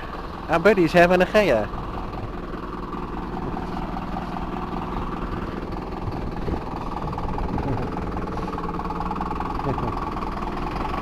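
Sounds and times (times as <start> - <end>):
motorhome engine running: 0.0 - 11.0.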